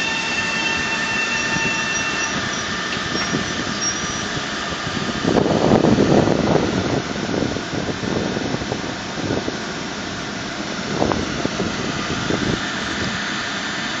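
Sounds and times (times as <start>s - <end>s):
electric train motors humming: 0.0s - 14.0s.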